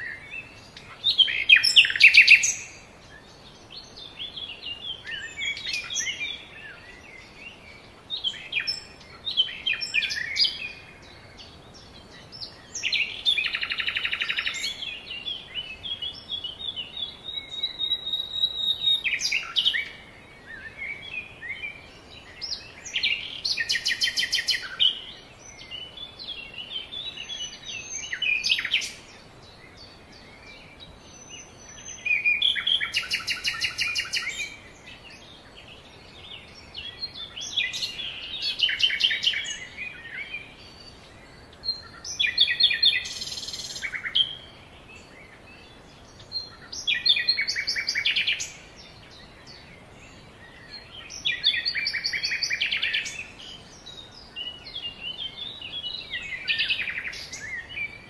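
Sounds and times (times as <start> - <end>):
songbird trilling: 0.0 - 2.9, 3.7 - 29.1, 30.2 - 35.3, 36.2 - 44.6, 46.0 - 58.0
faint background hiss: 0.0 - 58.0.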